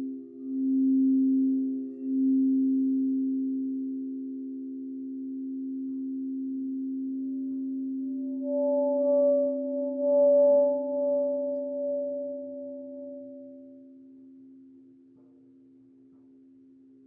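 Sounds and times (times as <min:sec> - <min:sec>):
crystal singing bowls ringing: 0:00.0 - 0:14.5
high singing bowl tone: 0:00.0 - 0:14.7.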